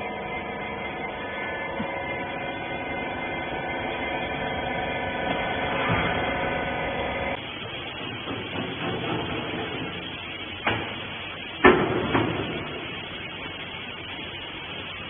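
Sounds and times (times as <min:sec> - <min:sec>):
electric motor and pump humming: 0:00.0 - 0:15.0.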